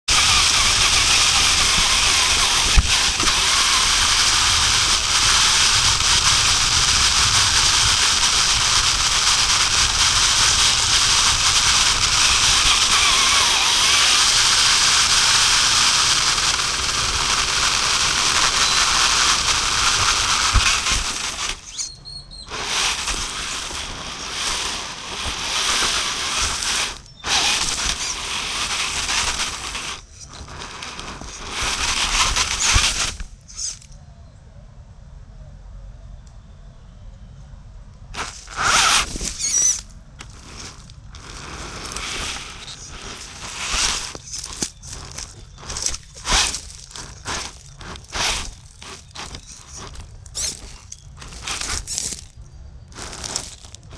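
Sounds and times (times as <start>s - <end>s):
rc crawler drivetrain whirring: 0.0s - 34.0s, 38.1s - 53.9s.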